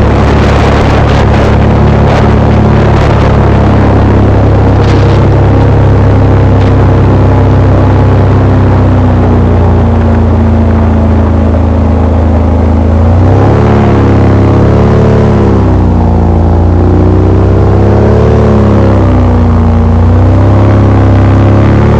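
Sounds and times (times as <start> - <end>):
airboat engine and propeller: 0.0 - 21.9.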